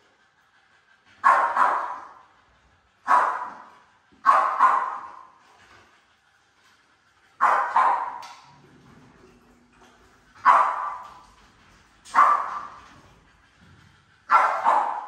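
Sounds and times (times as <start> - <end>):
dogs barking in echoing room: 0.0 - 15.0.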